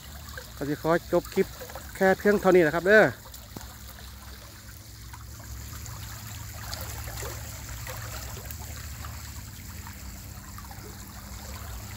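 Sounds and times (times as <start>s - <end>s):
water rushing and splashing: 0.0s - 11.9s.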